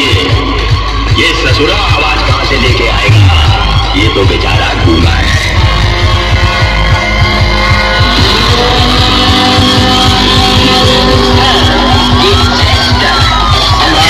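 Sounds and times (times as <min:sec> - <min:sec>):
loud dance music: 0:00.0 - 0:14.0.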